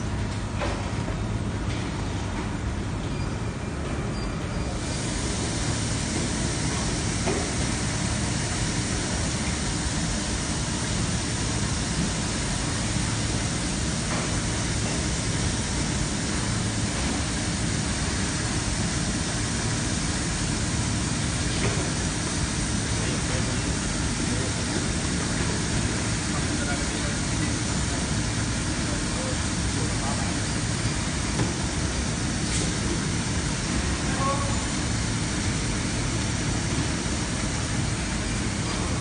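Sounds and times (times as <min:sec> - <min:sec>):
low machine hum: 0:00.0 - 0:39.0
machine hissing: 0:04.7 - 0:39.0.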